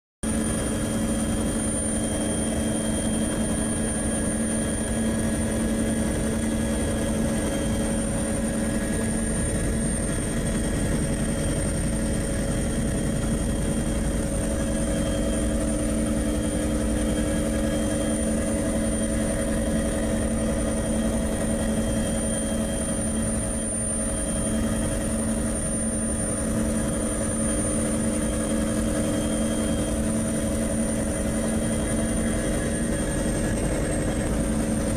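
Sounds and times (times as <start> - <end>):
aircraft drone in flight: 0.2 - 34.9
thin high engine whine: 0.2 - 34.9.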